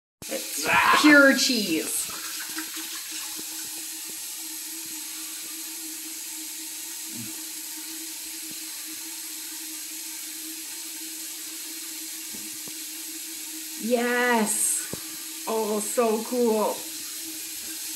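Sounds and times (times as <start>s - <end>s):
sink tap running water: 0.2s - 17.9s.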